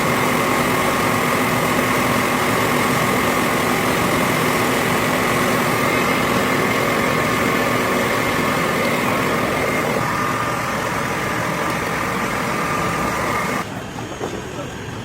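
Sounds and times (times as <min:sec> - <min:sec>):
high machine whine: 0:00.0 - 0:15.0
industrial machinery drone: 0:00.0 - 0:15.0.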